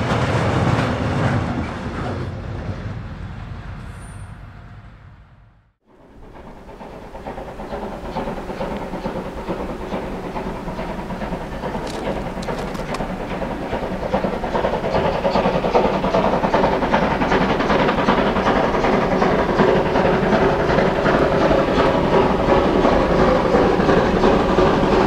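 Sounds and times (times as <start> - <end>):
steam locomotive hauling train: 0.0 - 25.0.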